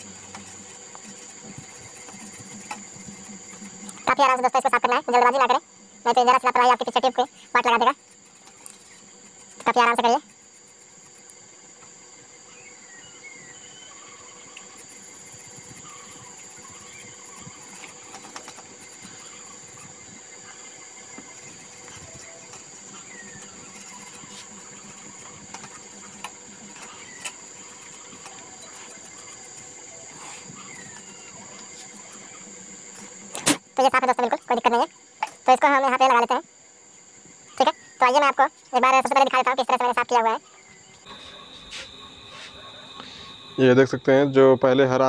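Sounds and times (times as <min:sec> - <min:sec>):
small squeaks: 0:00.0 - 0:36.4
faint cricket-like chirping: 0:00.0 - 0:45.0
high-pitched whine: 0:00.0 - 0:45.0.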